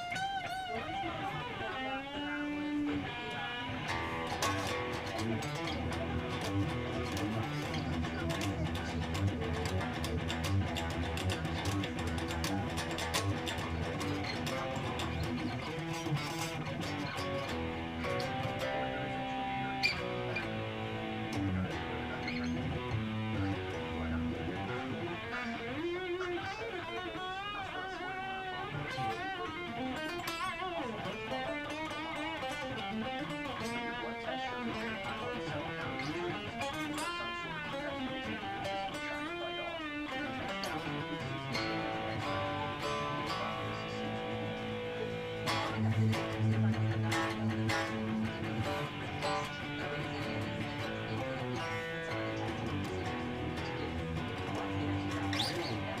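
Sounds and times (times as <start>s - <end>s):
electric guitar playing: 0.0s - 56.0s.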